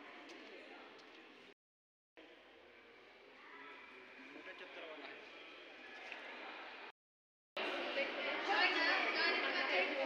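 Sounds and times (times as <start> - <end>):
background chatter in large hall: 0.0 - 1.6, 2.2 - 6.9, 7.6 - 10.0.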